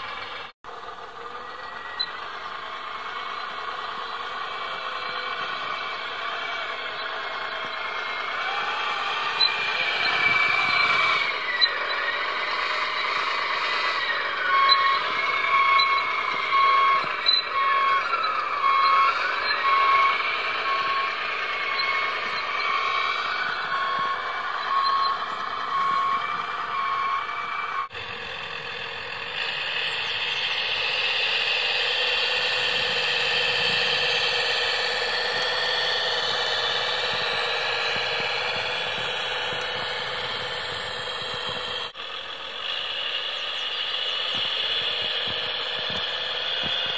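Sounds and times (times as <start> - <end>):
steady mechanical hum: 0.0 - 46.9
electric motor and hydraulics whining: 0.1 - 46.9
reversing beeper: 1.3 - 3.6, 4.5 - 28.0, 29.8 - 41.9.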